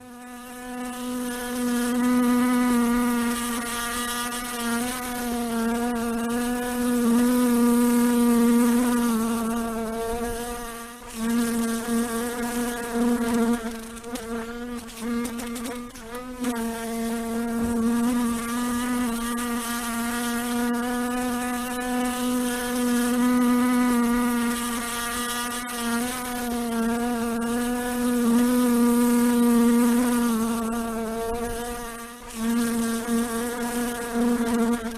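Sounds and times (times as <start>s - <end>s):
fly buzzing: 0.0s - 34.9s.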